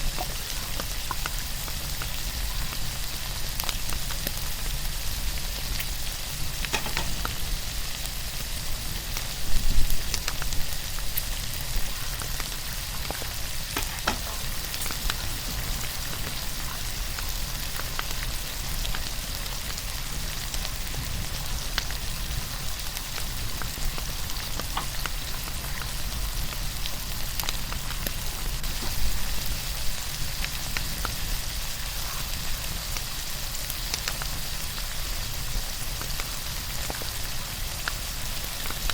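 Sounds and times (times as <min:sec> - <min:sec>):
steak sizzling with pops: 0:00.0 - 0:38.9.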